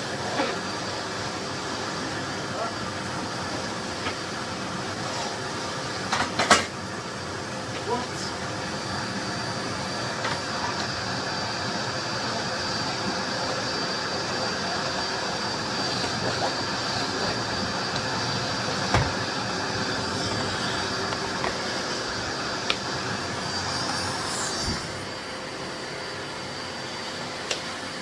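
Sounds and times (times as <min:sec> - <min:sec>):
vacuum cleaner running with whine: 0:00.0 - 0:28.0.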